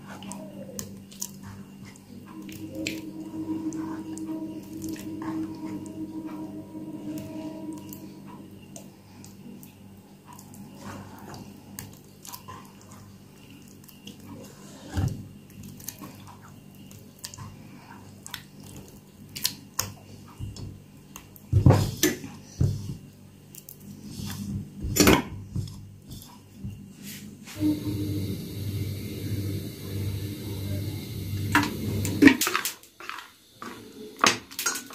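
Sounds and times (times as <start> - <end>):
hand mixing thick batter: 0.0 - 34.9.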